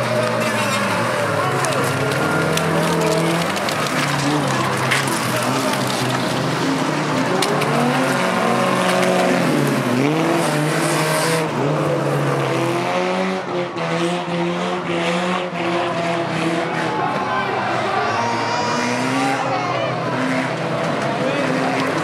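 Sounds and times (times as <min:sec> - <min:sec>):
tyre and track noise: 0:00.0 - 0:13.4, 0:14.9 - 0:22.0
racing car engines: 0:00.0 - 0:22.0.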